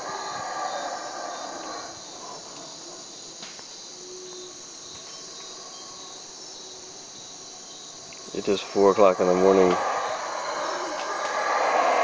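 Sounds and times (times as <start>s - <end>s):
howler monkeys calling: 0.0s - 3.3s, 5.2s - 12.0s
night insects and crickets: 0.0s - 12.0s.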